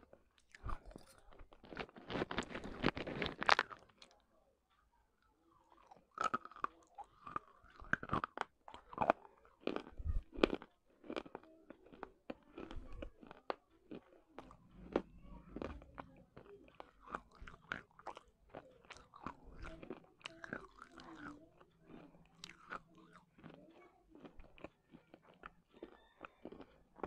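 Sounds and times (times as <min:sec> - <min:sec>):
crunching and chewing: 0:00.0 - 0:04.2, 0:05.6 - 0:27.0.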